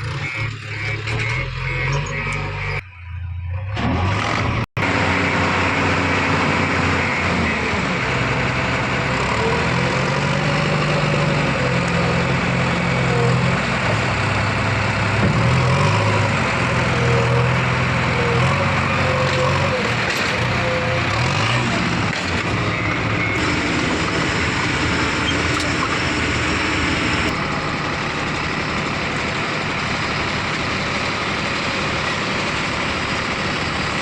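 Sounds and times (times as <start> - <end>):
diesel engine revving under load: 0.0 - 2.8, 3.5 - 34.0.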